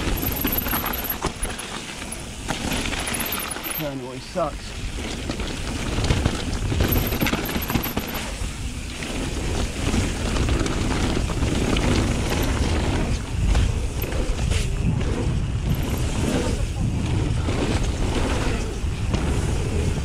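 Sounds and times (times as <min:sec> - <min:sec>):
bike clicking and rattling: 0:00.0 - 0:20.0
wind and tyres on dirt: 0:00.0 - 0:20.0.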